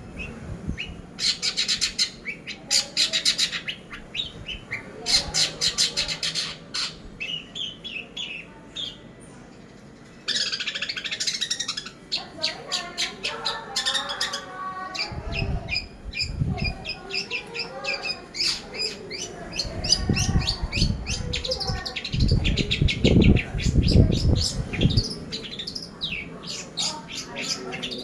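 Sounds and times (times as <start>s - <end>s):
bird chattering song: 0.1s - 9.1s, 10.1s - 28.0s.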